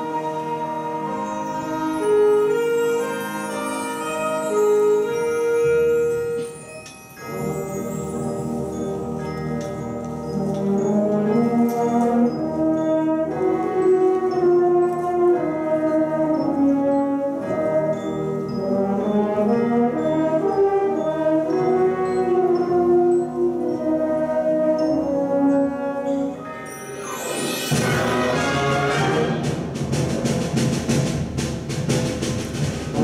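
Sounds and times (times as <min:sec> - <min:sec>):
wind band playing: 0:00.0 - 0:33.0.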